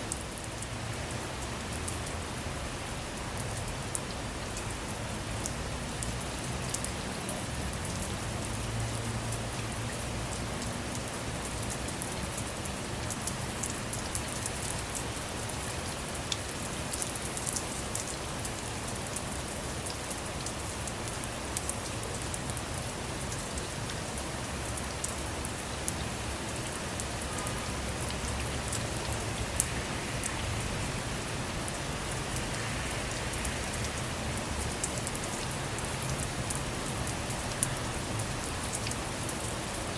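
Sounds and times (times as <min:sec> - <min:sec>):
rain falling on a car: 0:00.0 - 0:39.9.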